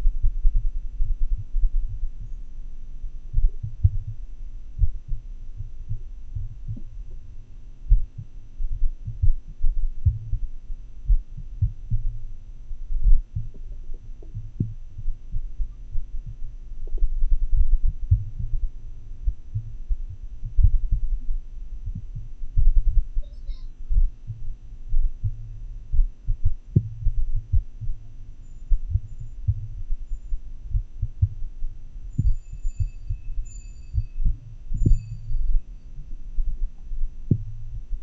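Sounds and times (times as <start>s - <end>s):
muffled heartbeats: 0.0s - 38.0s
steady low hum: 0.0s - 38.0s.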